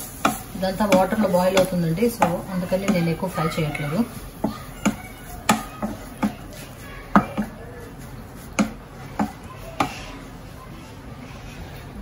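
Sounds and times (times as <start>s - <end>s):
spatula scraping frying pan: 0.0s - 10.4s.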